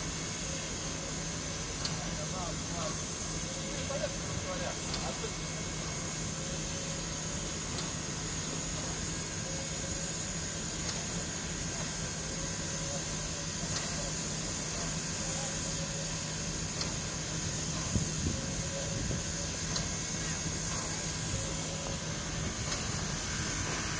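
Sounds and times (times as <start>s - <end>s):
constant low hum: 0.0s - 23.9s
steam locomotive hissing: 0.0s - 23.9s.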